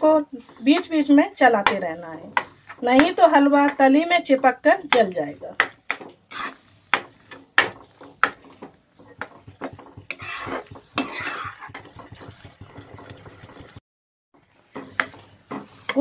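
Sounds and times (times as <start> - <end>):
spatula scraping thick mixture: 0.1 - 13.7, 14.5 - 16.0.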